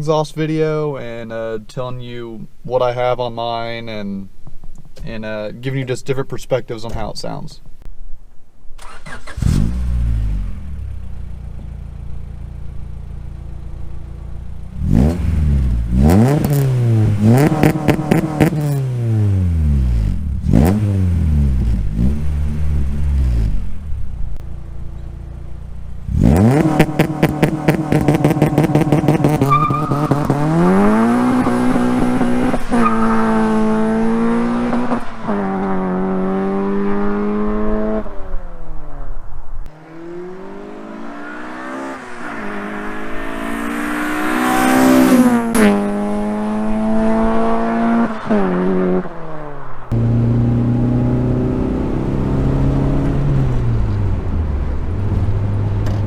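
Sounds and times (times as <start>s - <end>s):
car exhaust revving: 8.9s - 38.3s, 39.7s - 56.0s.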